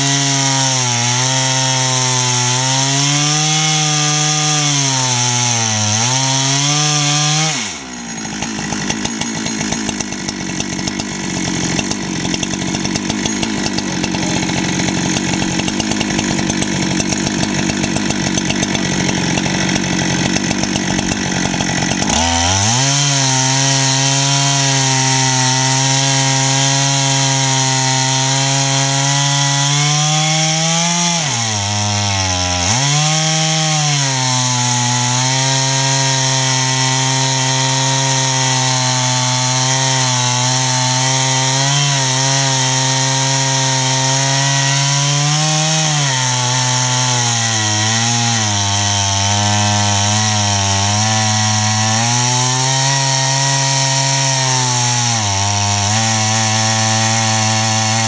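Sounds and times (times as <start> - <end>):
chainsaw ripping through log: 0.0 - 58.0.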